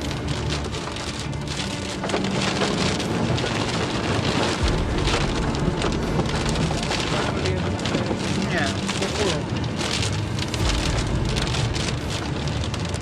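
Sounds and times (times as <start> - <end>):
car engine and tyre drone: 0.0 - 13.0
rain on a car windshield: 0.0 - 13.0.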